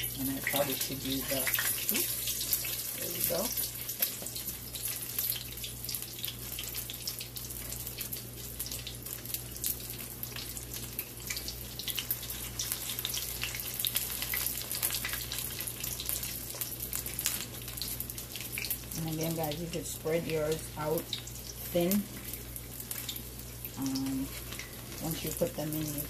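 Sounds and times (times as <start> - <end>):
batter frying in hot oil: 0.0 - 26.0.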